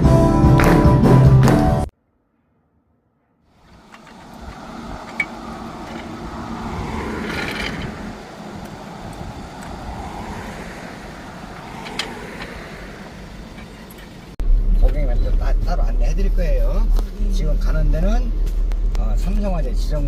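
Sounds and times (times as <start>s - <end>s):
car engine and road rumble: 3.5s - 20.0s.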